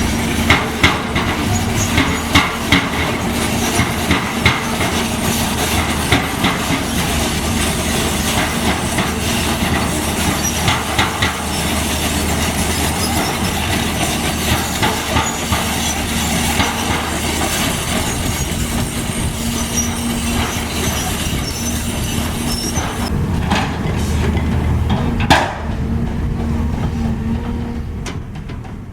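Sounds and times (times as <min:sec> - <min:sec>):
diesel machinery engine running: 0:00.0 - 0:28.9
metallic clanks and squeaks: 0:00.4 - 0:25.8.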